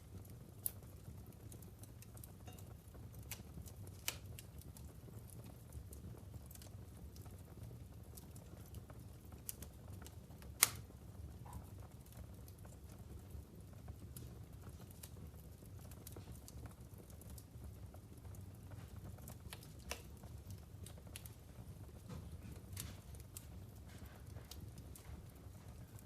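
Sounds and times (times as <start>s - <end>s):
logs crackling in fireplace: 0.0s - 26.0s.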